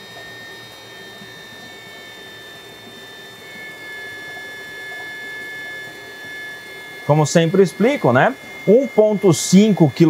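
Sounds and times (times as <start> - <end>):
water pump hum and whine: 0.0 - 10.0.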